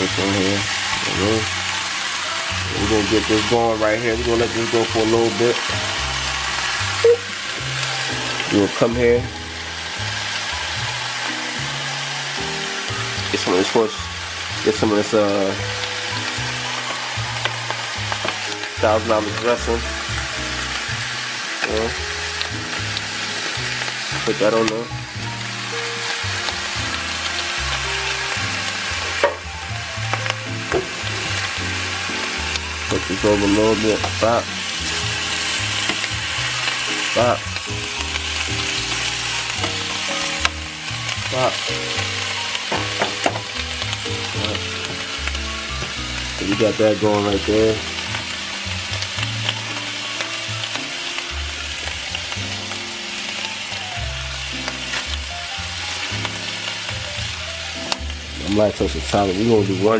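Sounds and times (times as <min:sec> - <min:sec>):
background music with bass line: 0:00.0 - 0:59.9
meat sizzling in a frying pan: 0:00.0 - 0:59.9.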